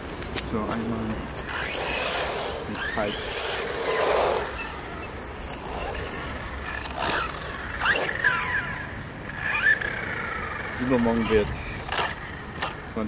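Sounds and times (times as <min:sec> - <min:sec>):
electric motors whining: 0:00.7 - 0:13.0.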